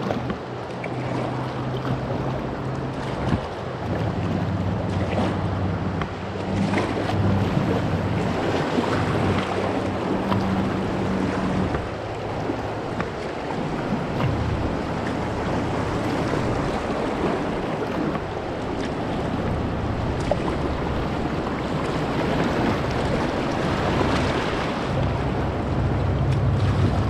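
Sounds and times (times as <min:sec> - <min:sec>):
river water rushing: 0:00.0 - 0:27.0
wind noise on microphone: 0:02.1 - 0:27.0.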